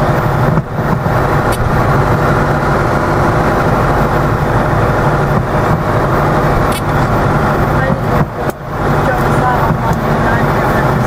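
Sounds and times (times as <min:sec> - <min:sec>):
airframe and rolling noise: 0:00.0 - 0:11.0
light aircraft engine and propeller: 0:00.0 - 0:11.0.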